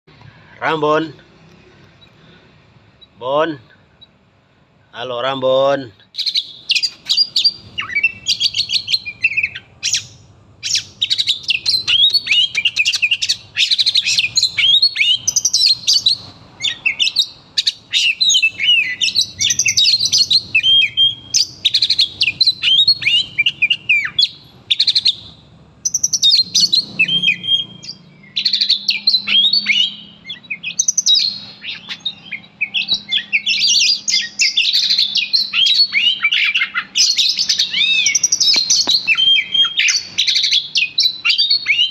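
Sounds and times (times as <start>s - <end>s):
songbird singing varied whistles: 6.2s - 41.9s.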